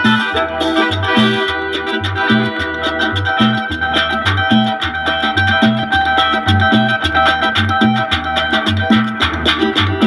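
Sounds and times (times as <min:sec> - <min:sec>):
cumbia music from a record: 0:00.0 - 0:10.0.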